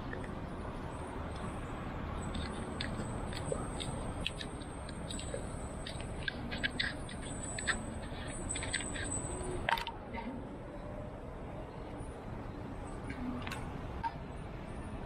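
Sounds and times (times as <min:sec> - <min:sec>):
street and riding rumble: 0:00.0 - 0:15.0.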